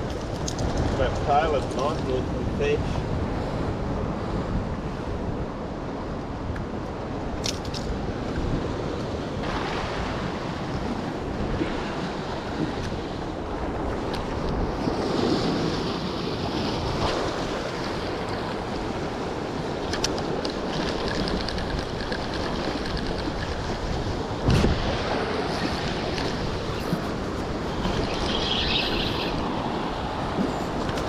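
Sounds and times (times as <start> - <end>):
surf washing over rocks: 0.0 - 4.3, 8.1 - 31.0
wind buffeting microphone: 0.0 - 31.0.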